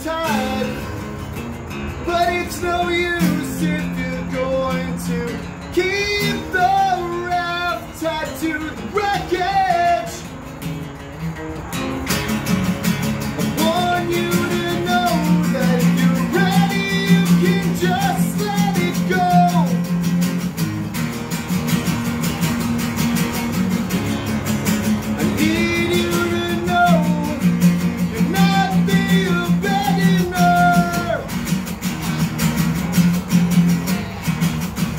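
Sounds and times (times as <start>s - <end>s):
acoustic guitars playing: 0.0s - 34.9s.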